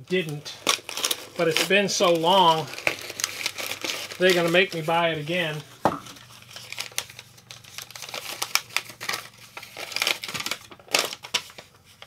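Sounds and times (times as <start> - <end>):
packaging rustling and crinkling: 0.1 - 12.0.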